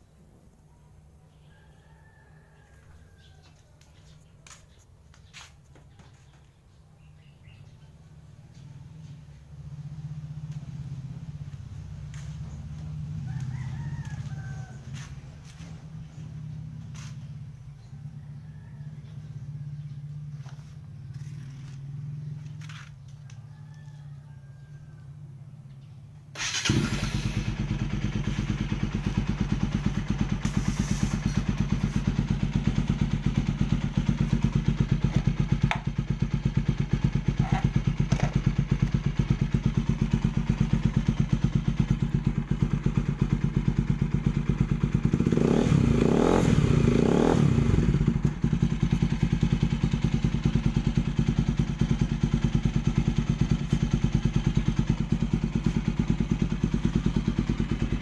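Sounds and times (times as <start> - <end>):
motorcycle engine idling: 2.6 - 58.0.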